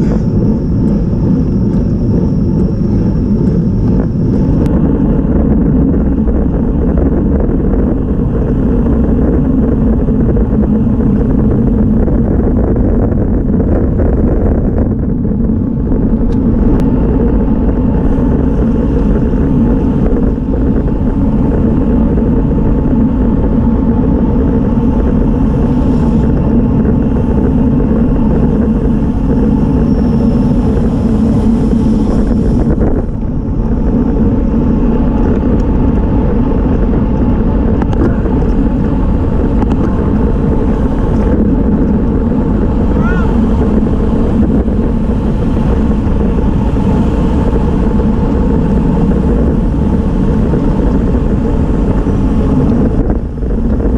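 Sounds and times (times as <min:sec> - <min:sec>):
tyres on asphalt: 0:00.0 - 0:53.9
wind rushing over microphone: 0:00.0 - 0:53.9.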